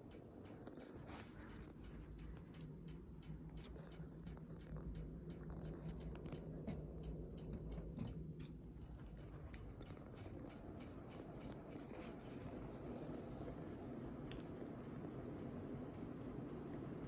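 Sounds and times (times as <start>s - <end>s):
ceiling fan humming: 0.0s - 17.0s
light rapid ticking: 0.0s - 17.0s.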